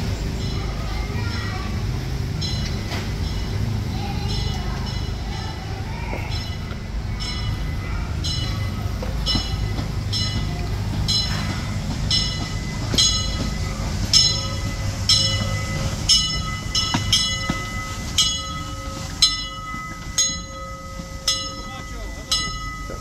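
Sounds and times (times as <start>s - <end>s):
locomotive bell ringing: 0.0s - 23.0s
train rumble: 0.0s - 23.0s.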